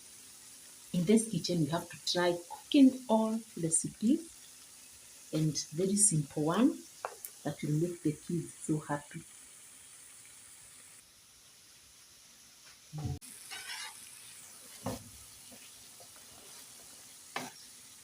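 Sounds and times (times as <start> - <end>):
fritters sizzling in oil: 0.0 - 18.0.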